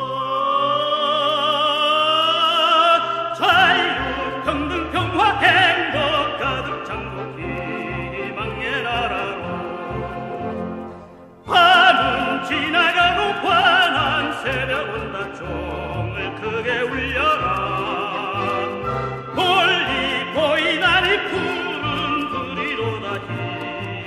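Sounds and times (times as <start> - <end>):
operatic singing: 0.0 - 24.0
orchestra playing: 2.8 - 24.0.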